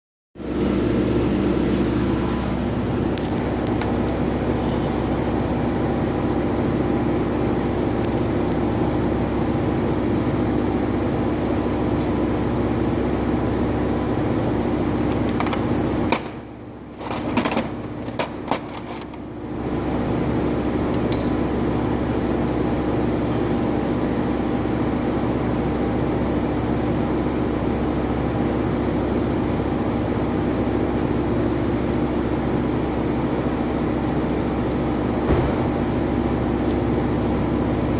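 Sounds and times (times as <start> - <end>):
steady mechanical hum: 0.4 - 37.9.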